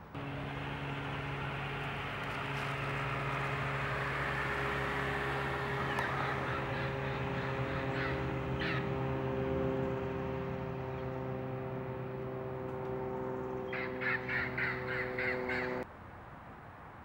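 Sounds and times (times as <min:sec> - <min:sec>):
engine droning: 0:00.0 - 0:15.9.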